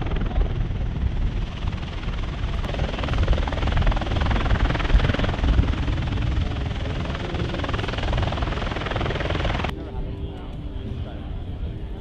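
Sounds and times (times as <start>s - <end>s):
aircraft engines running: 0.0s - 12.0s
tiltrotor aircraft rotor beat: 0.0s - 12.0s.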